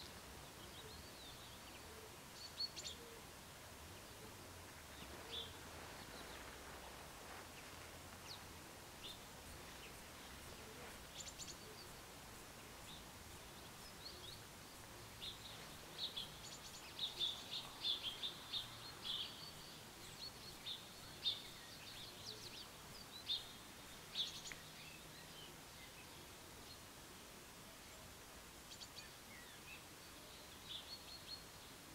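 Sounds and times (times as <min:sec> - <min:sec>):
faint steady background noise: 0:00.0 - 0:31.9
small songbirds chirping: 0:00.0 - 0:31.9.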